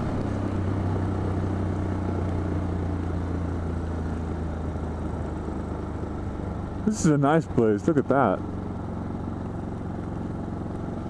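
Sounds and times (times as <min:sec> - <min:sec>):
motorcycle engine at low revs: 0:00.0 - 0:11.0
wind and road noise: 0:00.0 - 0:11.0.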